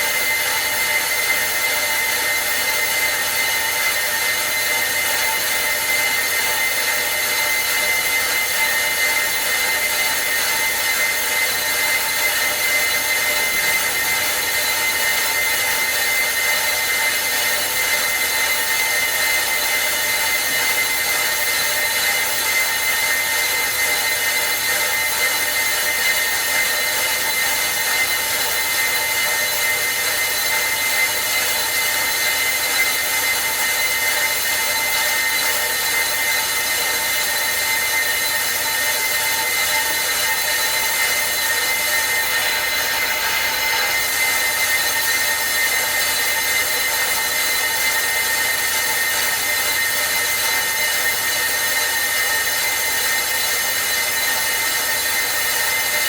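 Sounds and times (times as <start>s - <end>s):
brake lathe machining whine: 0.0s - 56.0s.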